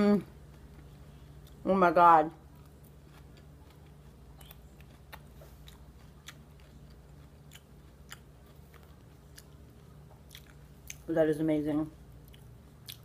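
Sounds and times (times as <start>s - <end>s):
chewing salad: 0.3s - 13.0s.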